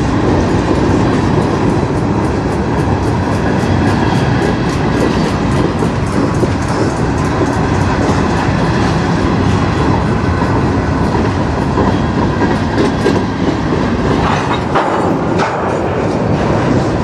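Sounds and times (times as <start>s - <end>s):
freight train wheels rumbling: 0.0s - 17.0s
wheels clacking over rail joints: 0.0s - 17.0s.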